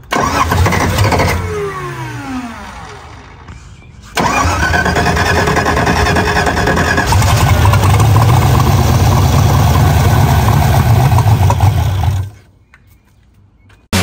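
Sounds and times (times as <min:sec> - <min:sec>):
car engine rumbling: 0:00.0 - 0:12.5.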